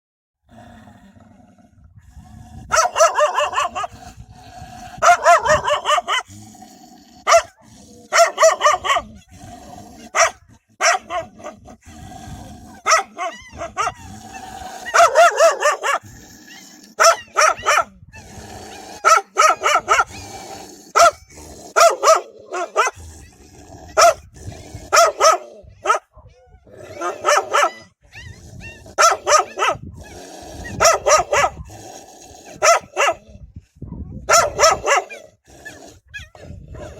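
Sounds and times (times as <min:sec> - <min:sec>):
dogs barking fiercely: 0:02.3 - 0:36.9.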